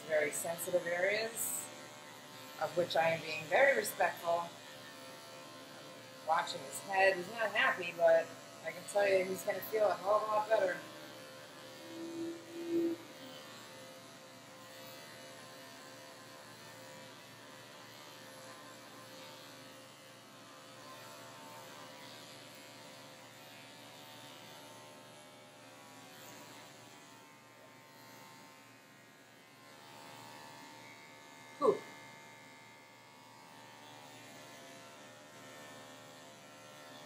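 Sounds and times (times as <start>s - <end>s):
electric clippers buzzing: 0.0s - 37.0s.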